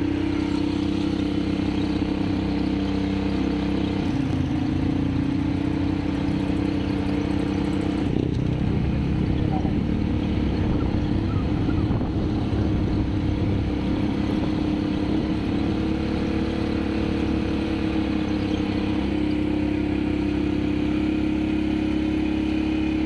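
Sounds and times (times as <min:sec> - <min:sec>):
quad bike engines rumbling: 0:00.0 - 0:23.0.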